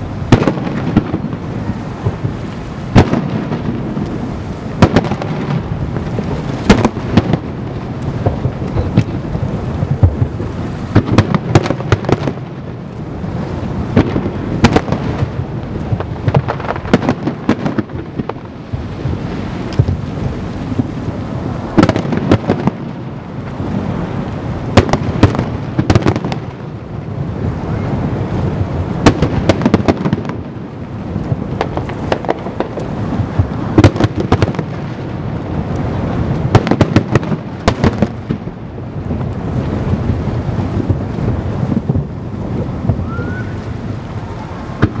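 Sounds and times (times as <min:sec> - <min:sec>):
low rumble of explosions: 0:00.0 - 0:45.0.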